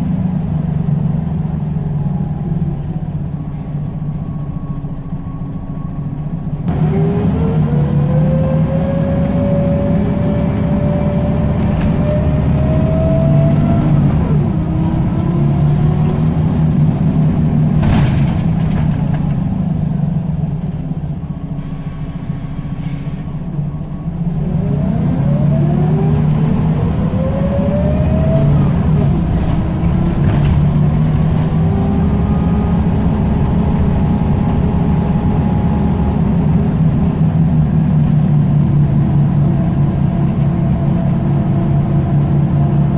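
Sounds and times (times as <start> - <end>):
bus engine drone: 0.0 - 42.9
rising engine whine: 0.0 - 42.9.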